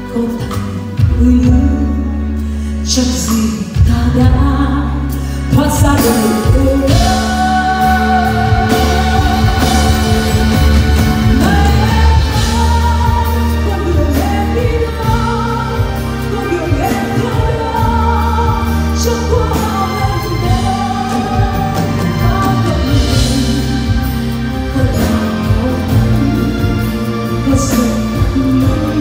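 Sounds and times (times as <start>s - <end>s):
band accompaniment: 0.0s - 29.0s
woman singing: 0.0s - 29.0s.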